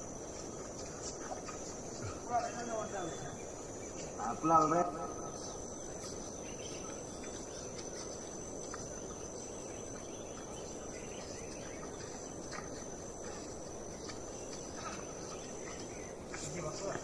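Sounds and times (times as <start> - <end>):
faint background hiss: 0.0 - 17.0
insect chorus high-pitched tone: 0.0 - 17.0.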